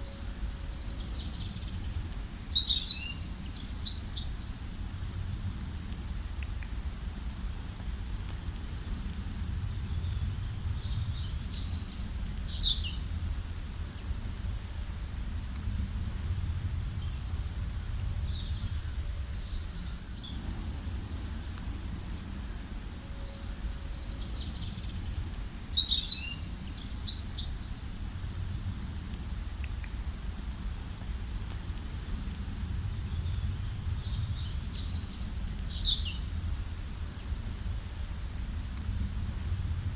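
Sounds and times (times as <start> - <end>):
songbirds chirping: 0.0 - 38.9
steady low rumble: 4.6 - 39.9.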